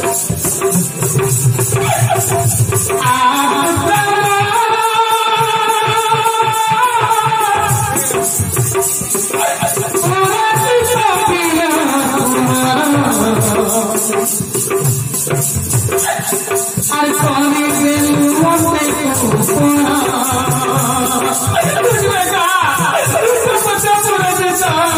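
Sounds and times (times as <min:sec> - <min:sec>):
drum beats: 0:00.0 - 0:24.9
percussion rhythm: 0:00.0 - 0:24.9.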